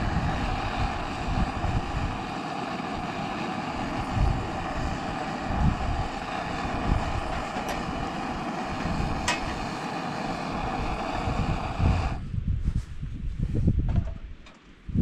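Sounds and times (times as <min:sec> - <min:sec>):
gas burner roaring: 0:00.0 - 0:12.3
wind buffeting microphone: 0:00.0 - 0:15.0.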